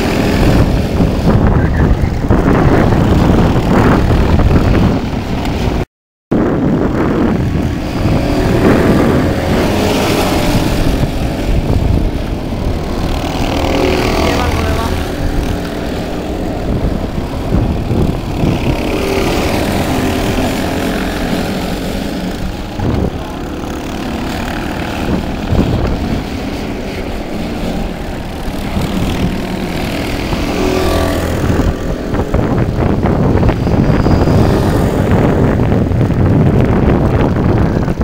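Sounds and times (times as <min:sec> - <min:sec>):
kart engines racing: 0:00.0 - 0:05.8, 0:06.4 - 0:38.0.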